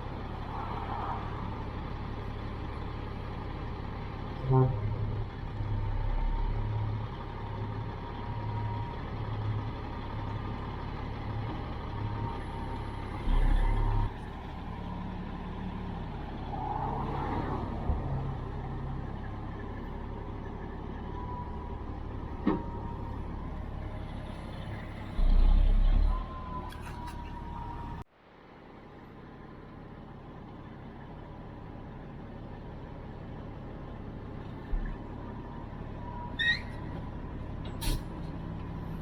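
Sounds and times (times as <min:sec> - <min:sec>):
diesel equipment idling: 0:01.2 - 0:16.5, 0:18.4 - 0:39.0.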